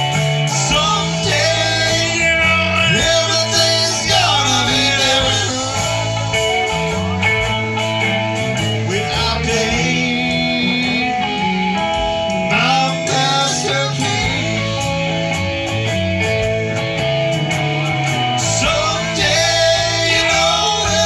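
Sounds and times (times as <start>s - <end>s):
drum kit: 0.0s - 21.0s
electric bass: 0.0s - 21.0s
electric guitars: 0.0s - 21.0s.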